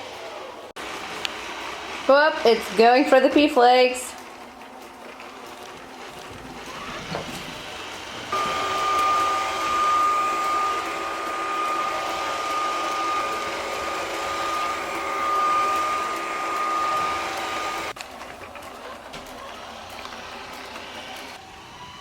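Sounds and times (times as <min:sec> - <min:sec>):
robot vacuum cleaner running: 0:00.0 - 0:18.0, 0:18.8 - 0:22.0.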